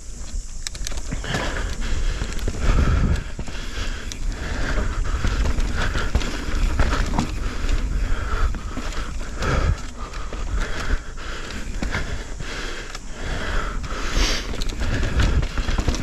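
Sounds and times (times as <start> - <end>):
bike rattling over bumps: 0.0 - 16.0
tyres rumbling on dirt: 0.9 - 16.0.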